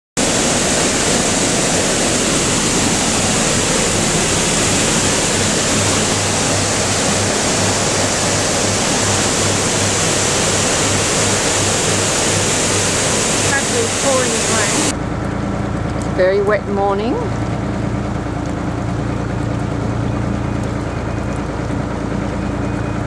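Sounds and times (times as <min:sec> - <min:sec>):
rush of falling water: 0:00.2 - 0:15.0, 0:15.8 - 0:23.0.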